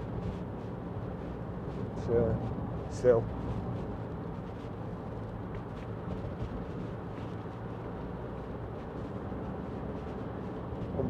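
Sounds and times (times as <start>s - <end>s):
car interior engine and tyre rumble: 0.0s - 11.0s.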